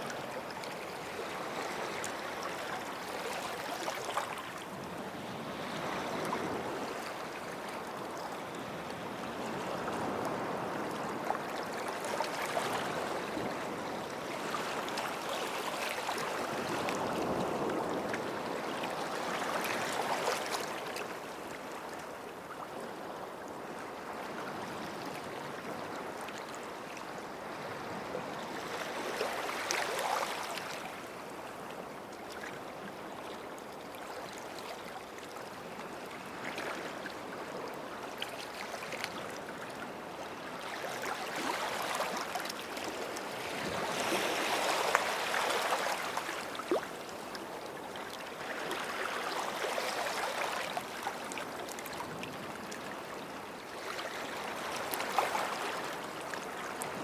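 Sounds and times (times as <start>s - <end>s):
small waves washing on shore: 0.0s - 57.0s.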